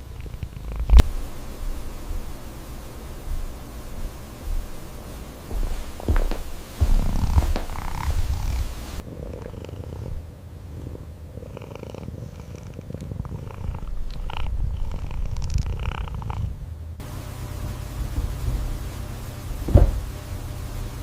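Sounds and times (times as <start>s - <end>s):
cat purring: 0.0s - 17.1s.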